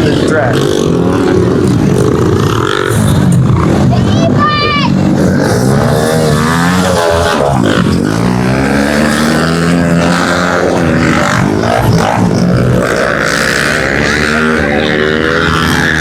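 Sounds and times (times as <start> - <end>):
pit bike engines racing: 0.0 - 16.0.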